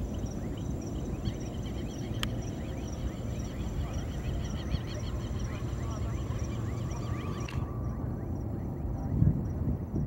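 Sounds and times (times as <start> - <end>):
high chirping calls: 0.0 - 9.2
steady low rumble: 0.0 - 10.0.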